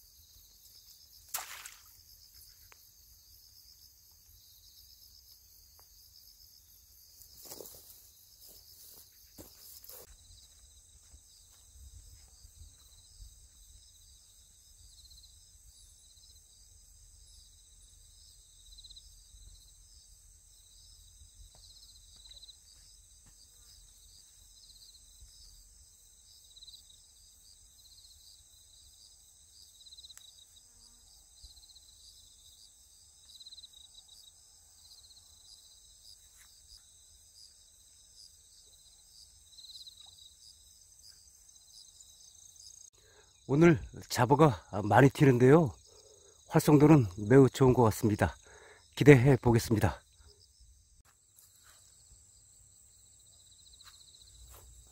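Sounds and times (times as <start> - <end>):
crickets and insects chirring: 0.0 - 54.9.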